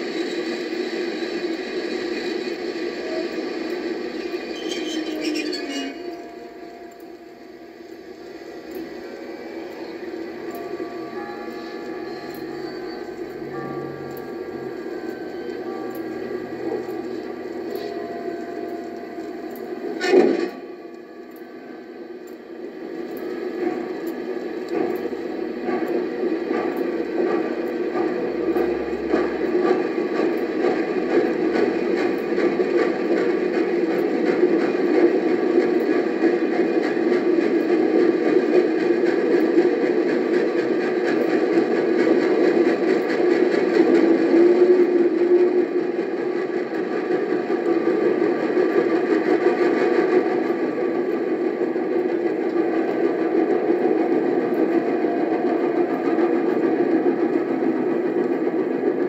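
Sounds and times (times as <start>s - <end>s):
steam locomotive rumbling: 0.0s - 59.0s.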